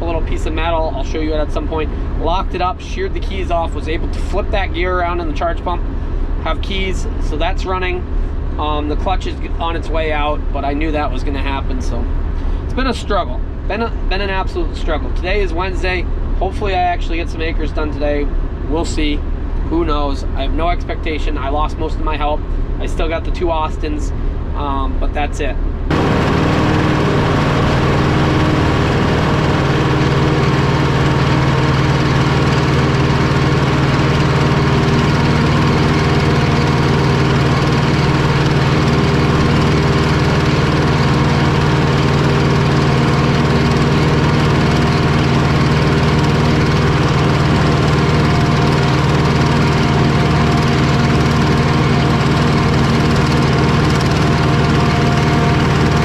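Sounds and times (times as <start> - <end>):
forage harvester machine drone: 0.0 - 25.0, 25.7 - 56.0.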